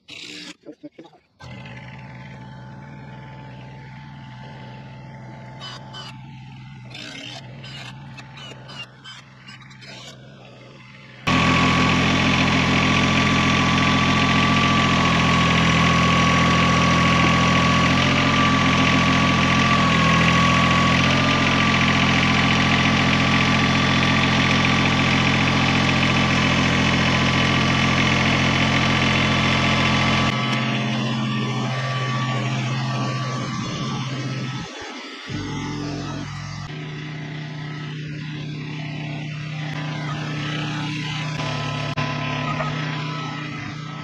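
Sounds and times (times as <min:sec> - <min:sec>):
engine idling: 0:00.0 - 0:44.0.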